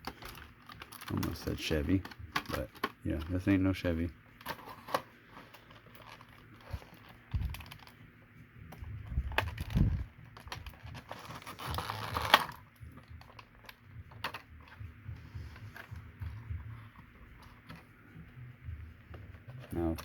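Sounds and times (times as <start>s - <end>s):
plastic parts clicking and tapping: 0.0s - 8.0s, 8.6s - 17.9s
packaging rustling: 0.0s - 18.0s.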